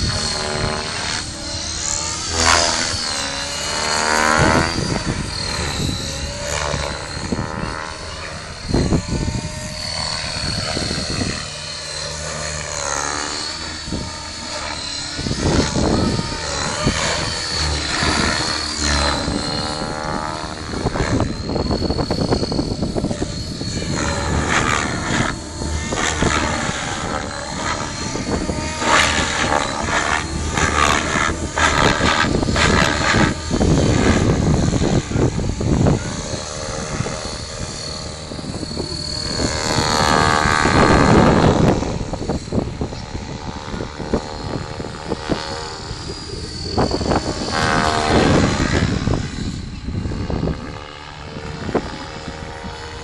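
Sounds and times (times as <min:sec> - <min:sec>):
model helicopter rotor whoosh and whine: 0:00.0 - 0:53.0.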